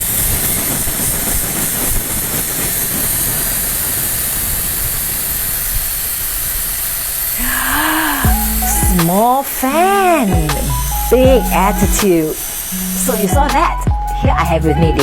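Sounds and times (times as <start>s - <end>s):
handheld fan rushing air: 0.0s - 15.0s.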